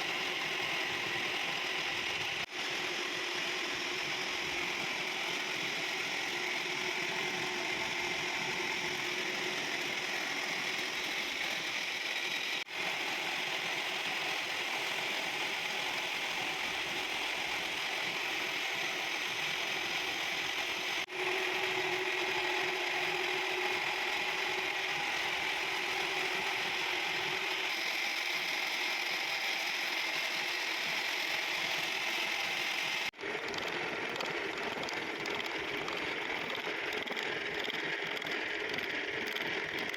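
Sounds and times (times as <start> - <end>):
machine tool whirring: 0.0 - 39.9.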